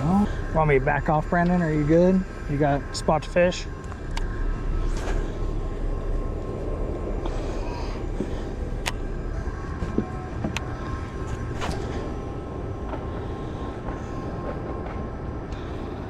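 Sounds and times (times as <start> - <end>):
boat motor rumbling: 0.0 - 16.0.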